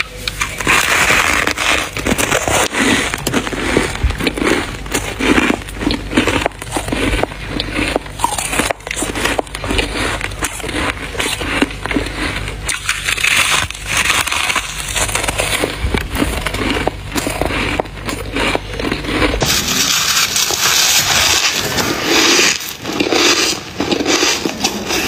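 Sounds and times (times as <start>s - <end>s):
frost crunching: 0.0s - 25.0s.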